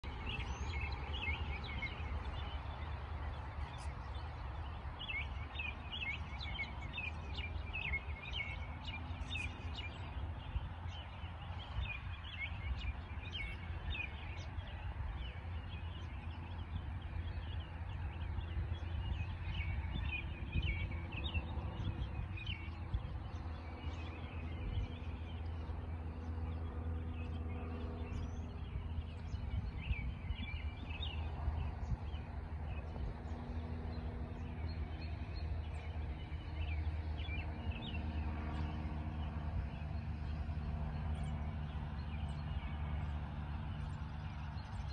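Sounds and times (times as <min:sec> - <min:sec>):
songbirds chirping: 0:00.0 - 0:44.9
steady low rumble: 0:00.0 - 0:44.9.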